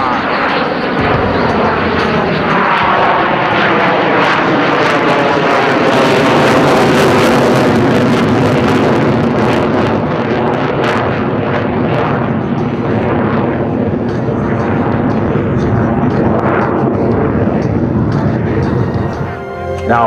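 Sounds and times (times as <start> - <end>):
fighter jet roar: 0.0 - 20.0.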